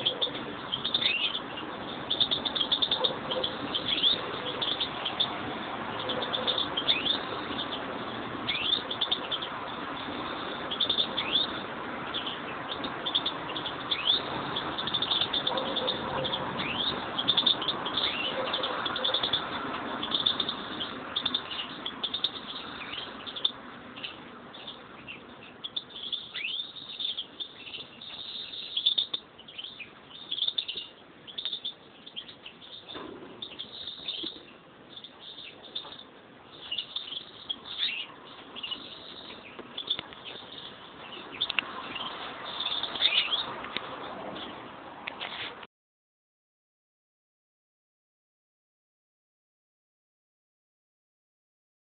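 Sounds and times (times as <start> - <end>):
finches chirping: 0.0 - 44.7.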